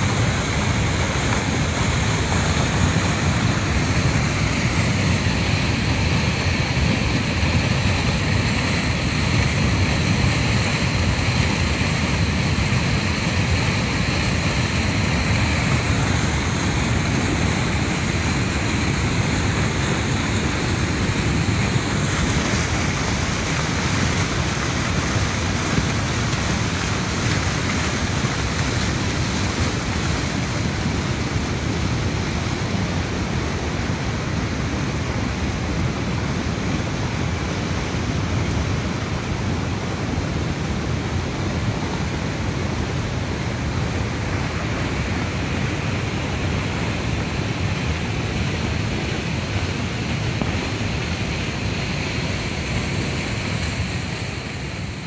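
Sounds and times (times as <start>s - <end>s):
flood water rushing: 0.0s - 55.0s.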